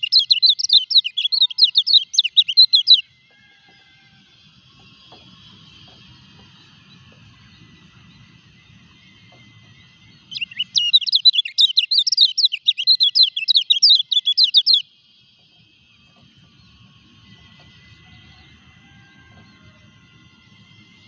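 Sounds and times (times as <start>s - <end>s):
bird singing fast warbling notes: 0.0s - 3.3s, 4.4s - 18.7s.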